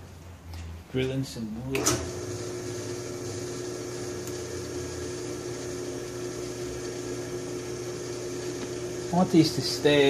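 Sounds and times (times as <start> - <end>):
drill press motor humming: 1.8 - 10.0.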